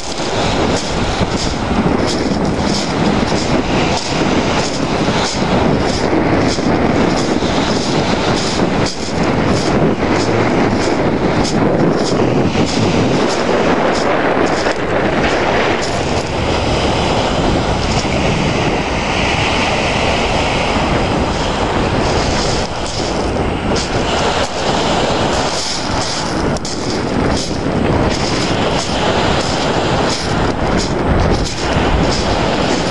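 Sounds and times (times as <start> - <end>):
waves breaking on pebbles: 0.0 - 32.9
wind buffeting microphone: 0.0 - 32.9.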